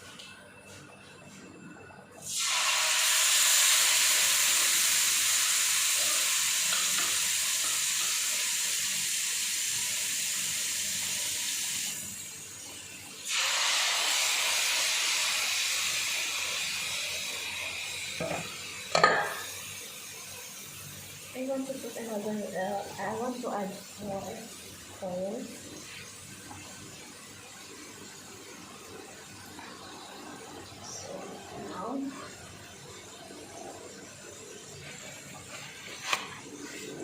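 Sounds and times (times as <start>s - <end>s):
chicken sizzling in hot oil: 2.2s - 37.0s.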